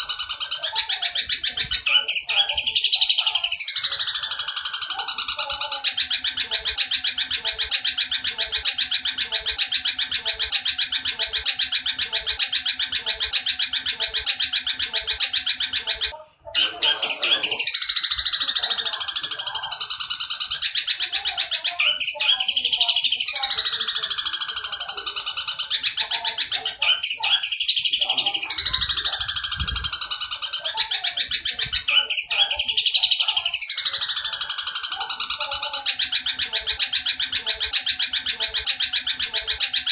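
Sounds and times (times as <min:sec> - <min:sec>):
bird harsh rattling chatter: 0:00.0 - 0:39.9.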